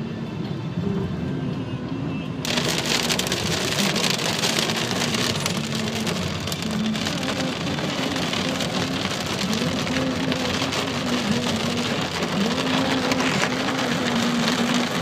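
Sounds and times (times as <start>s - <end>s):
rain on car roof: 2.4s - 15.0s.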